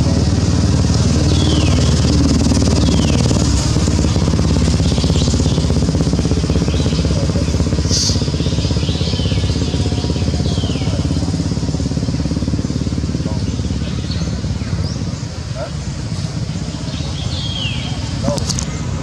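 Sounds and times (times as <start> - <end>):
small engine rumbling: 0.0 - 19.0.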